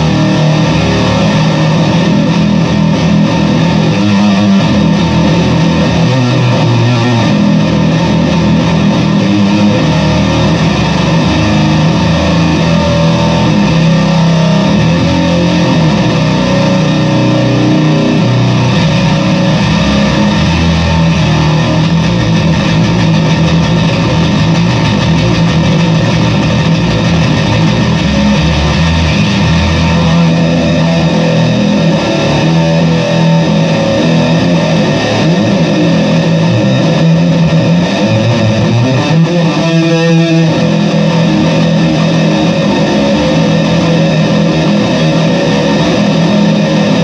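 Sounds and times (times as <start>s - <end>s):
distorted bass guitar riff: 0.0s - 47.0s.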